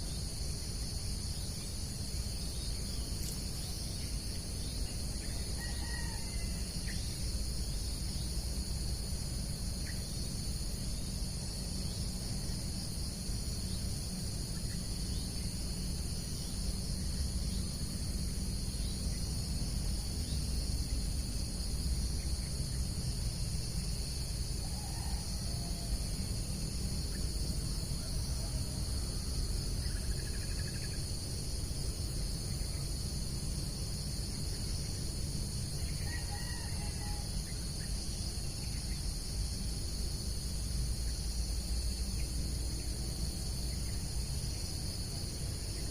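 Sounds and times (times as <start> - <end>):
insects trilling: 0.0 - 45.9.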